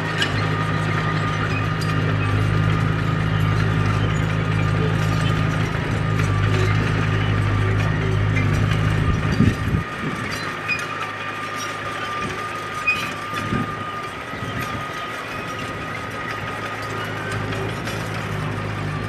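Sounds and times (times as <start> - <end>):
diesel engine droning: 0.0 - 19.0
tracks clanking and creaking: 0.0 - 19.0.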